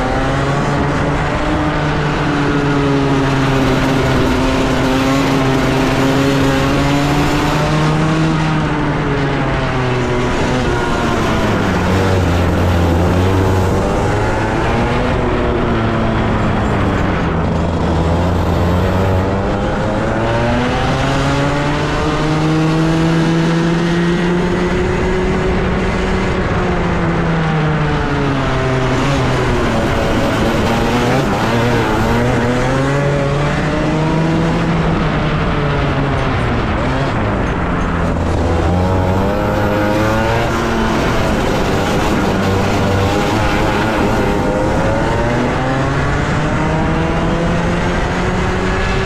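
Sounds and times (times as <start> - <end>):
kart engine at full throttle: 0.0 - 49.0.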